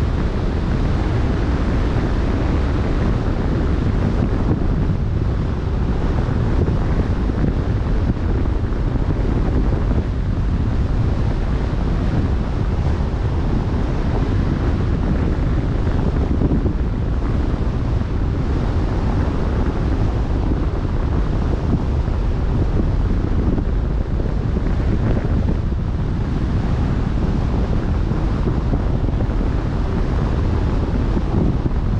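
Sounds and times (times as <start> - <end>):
wind on microphone: 0.0 - 31.9.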